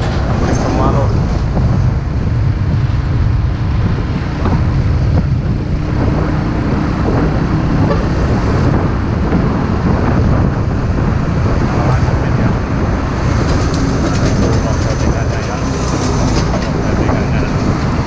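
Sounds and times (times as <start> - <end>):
heavy truck traffic rumble: 0.0 - 18.0.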